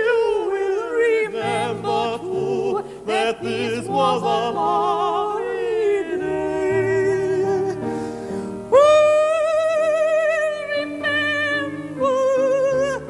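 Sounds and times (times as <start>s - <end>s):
falsetto voice singing: 0.0s - 8.0s, 8.7s - 13.0s
grand piano: 0.0s - 13.0s.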